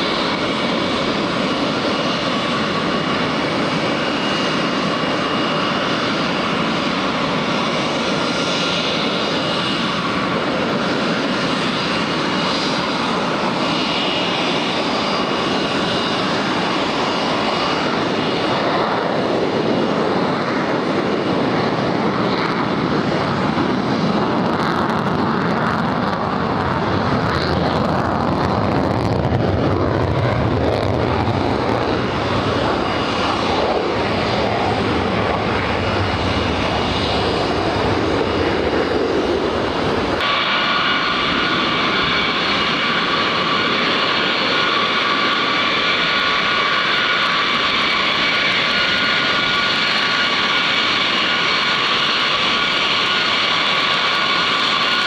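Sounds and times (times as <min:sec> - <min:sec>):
high-pitched turbine whine: 0:00.0 - 0:55.0
jet engines rumbling: 0:00.0 - 0:55.0.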